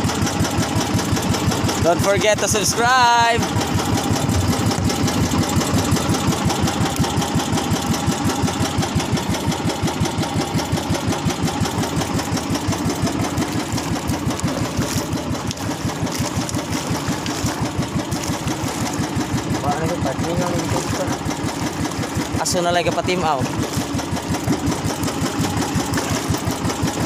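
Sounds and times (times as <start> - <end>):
boat engine chugging: 0.0 - 27.0.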